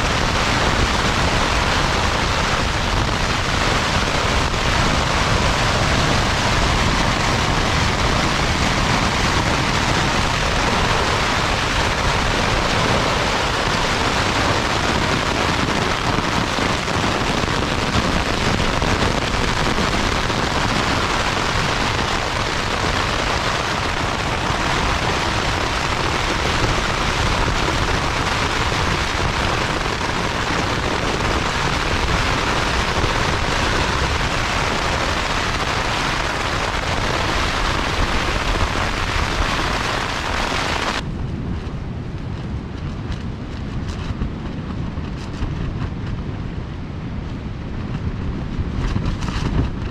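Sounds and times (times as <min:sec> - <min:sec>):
heavy rain hiss: 0:00.0 - 0:41.0
low fluttering wind rumble: 0:00.0 - 0:49.9.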